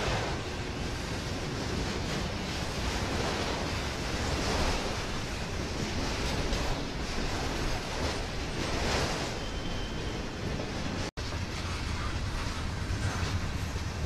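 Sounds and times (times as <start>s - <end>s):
steel wheels rolling on rail: 0.0s - 14.0s.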